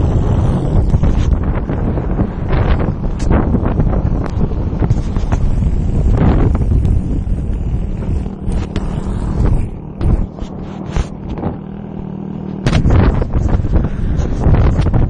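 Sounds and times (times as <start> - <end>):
motorbike engine humming: 0.0 - 15.0
wind buffeting microphone: 0.0 - 15.0.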